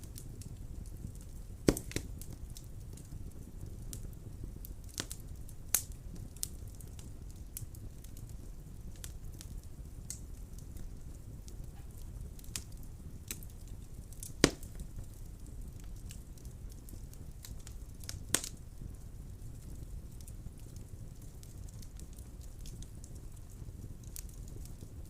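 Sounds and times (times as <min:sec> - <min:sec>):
fire crackling: 0:00.0 - 0:25.0
low rumble of flames: 0:00.0 - 0:25.0.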